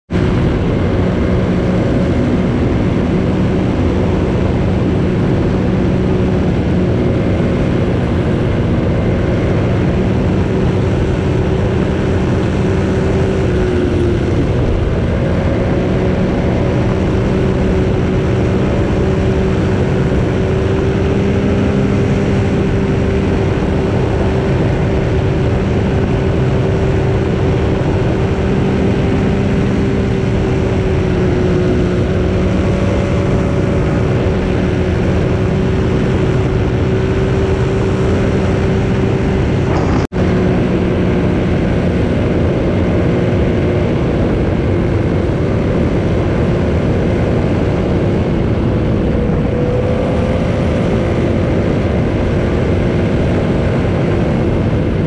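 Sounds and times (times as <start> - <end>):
wind and road noise: 0.0 - 55.0
motorcycle engine cruising: 0.1 - 55.0.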